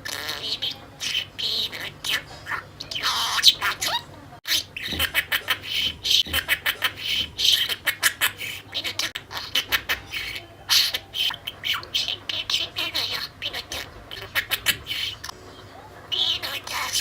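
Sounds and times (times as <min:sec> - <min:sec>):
budgerigar chattering: 0:00.0 - 0:15.4, 0:16.1 - 0:17.0.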